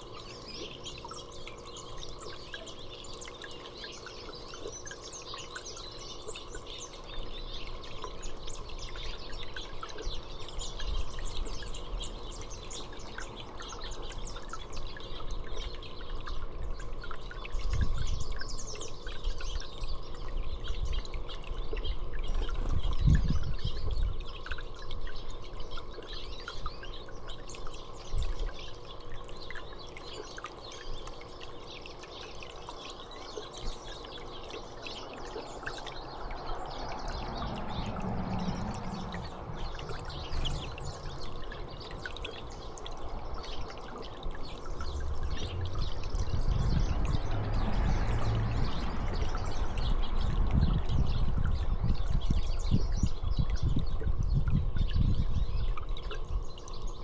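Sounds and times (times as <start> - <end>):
small birds chirping: 0.0 - 57.0
water trickling: 0.0 - 57.0.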